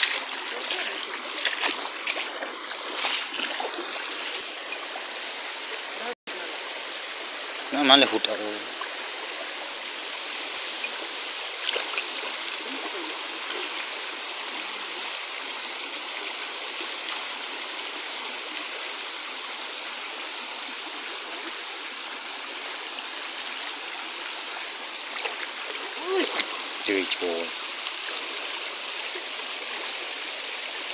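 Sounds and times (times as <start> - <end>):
stream running over rocks: 0.0 - 30.9.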